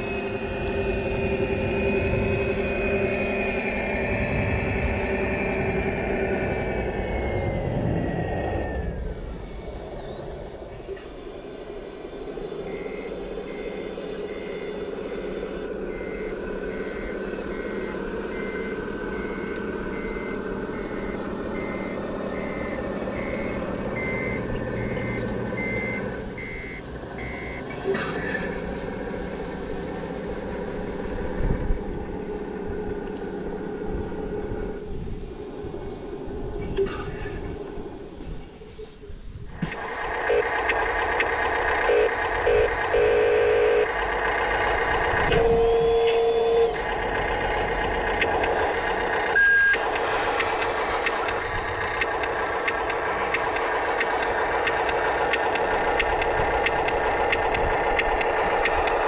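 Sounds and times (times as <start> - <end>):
reversing beeper: 0.0 - 29.0, 39.6 - 59.0
simulated diesel engine running: 0.0 - 59.0.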